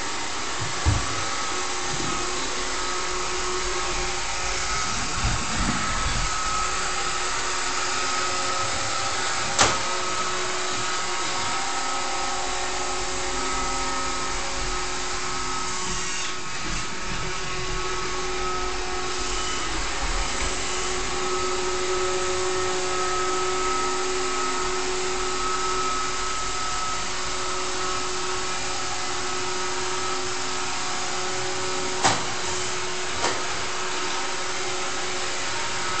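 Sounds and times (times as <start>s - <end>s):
robot vacuum whirring: 0.0s - 36.0s.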